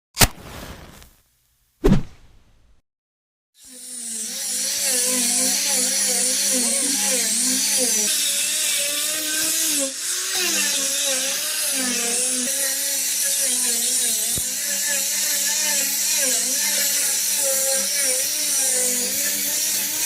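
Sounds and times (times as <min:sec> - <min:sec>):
angle grinder motor whine: 0:03.6 - 0:20.0.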